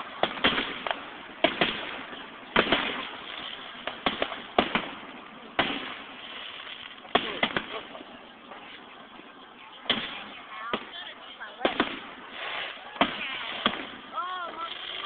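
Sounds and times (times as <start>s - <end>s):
fireworks banging: 0.0s - 15.0s.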